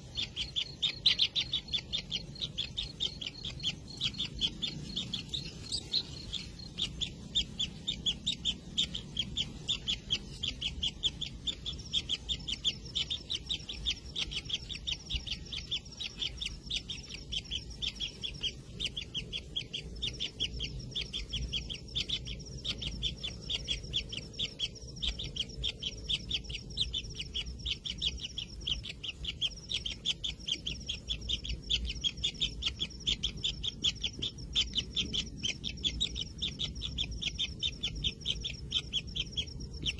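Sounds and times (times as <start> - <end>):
nestlings calling rapidly: 0.0 - 39.9.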